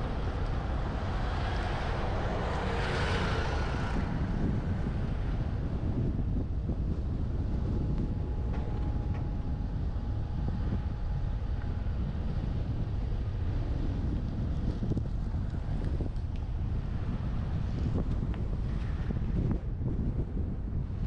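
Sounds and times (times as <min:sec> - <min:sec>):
truck road noise: 0:00.0 - 0:21.0
wind buffeting microphone: 0:00.0 - 0:21.0.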